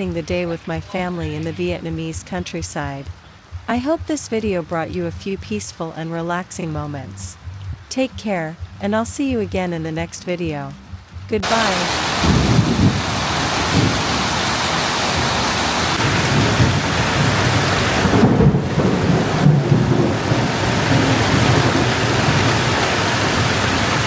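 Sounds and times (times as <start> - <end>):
heavy rain pouring: 0.0 - 10.0, 10.9 - 24.0.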